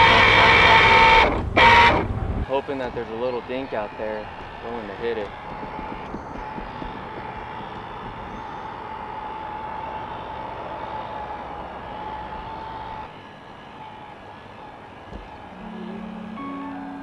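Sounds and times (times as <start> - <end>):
model boat motor whining: 0.0 - 16.9.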